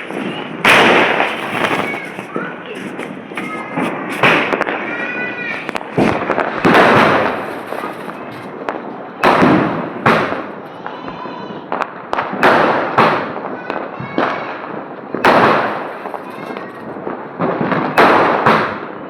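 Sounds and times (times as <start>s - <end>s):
firework bangs with crackling: 0.0s - 19.0s.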